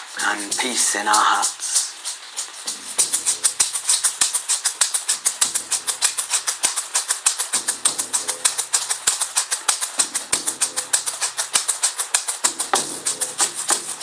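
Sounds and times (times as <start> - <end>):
drums beaten in fast beat: 0.0 - 14.0.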